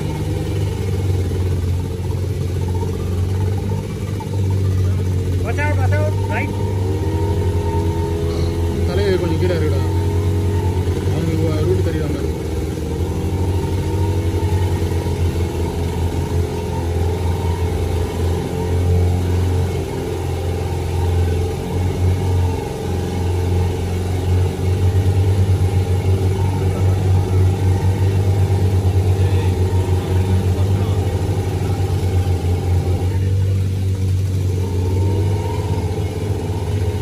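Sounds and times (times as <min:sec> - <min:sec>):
engine humming: 0:00.0 - 0:37.0.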